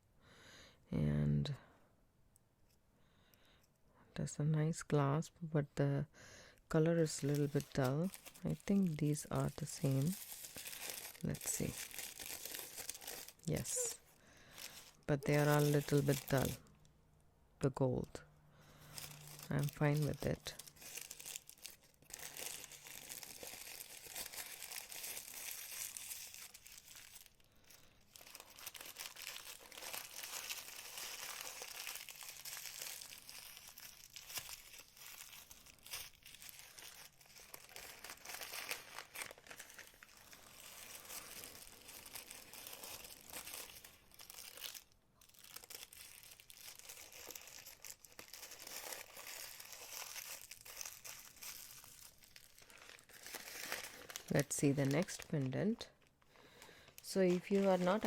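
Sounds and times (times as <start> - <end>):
paper and plastic bags crinkling: 7.0 - 16.8, 17.9 - 58.0.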